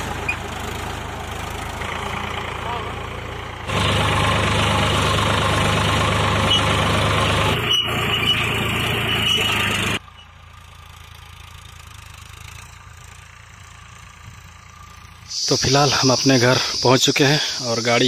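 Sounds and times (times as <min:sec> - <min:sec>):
distant tractor: 0:00.0 - 0:18.0
tractor diesel engine running: 0:00.0 - 0:18.0.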